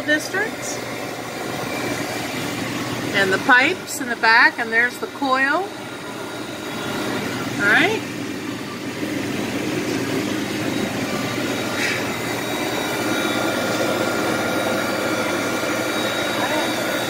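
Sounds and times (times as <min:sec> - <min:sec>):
ice machine drone: 0:00.0 - 0:17.0.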